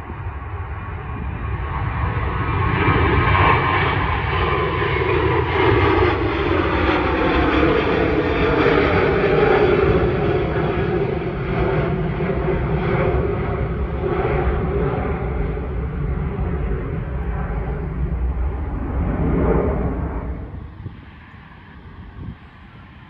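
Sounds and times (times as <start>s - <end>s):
jet engines at climb power: 0.0s - 23.0s.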